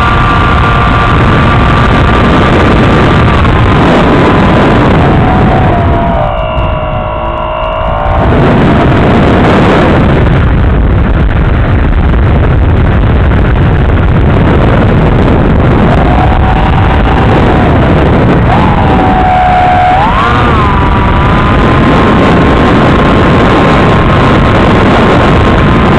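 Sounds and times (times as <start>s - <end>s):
rushing air noise: 0.0s - 25.9s
wavering whine: 0.0s - 25.9s.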